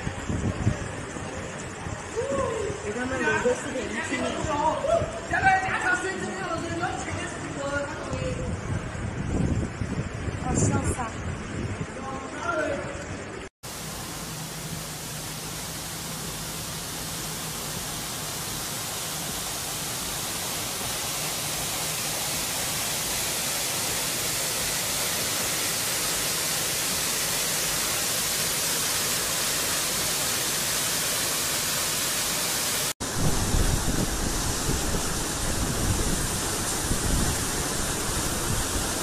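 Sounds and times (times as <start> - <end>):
runoff water pouring down wall: 0.0 - 39.0.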